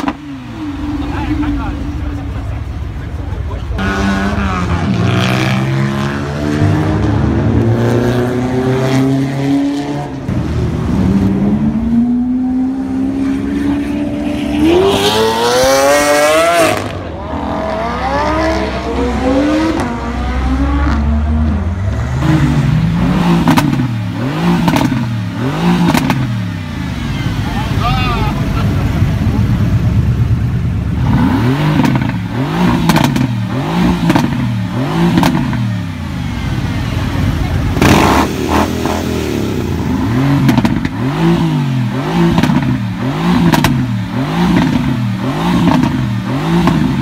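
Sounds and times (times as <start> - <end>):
supercar engines revving: 0.0 - 47.0.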